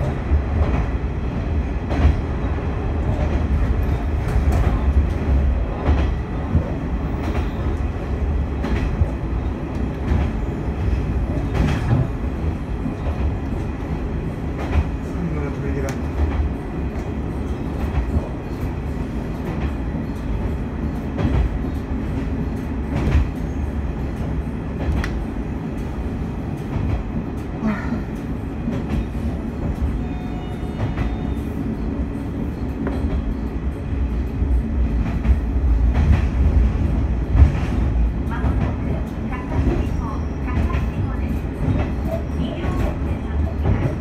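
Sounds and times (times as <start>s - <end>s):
railcar running rumble: 0.0s - 44.0s.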